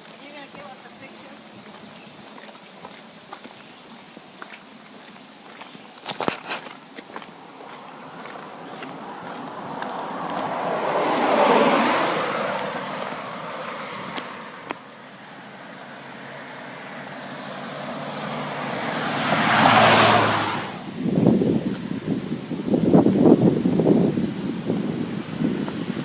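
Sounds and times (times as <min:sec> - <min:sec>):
cars passing on road: 0:00.0 - 0:26.0.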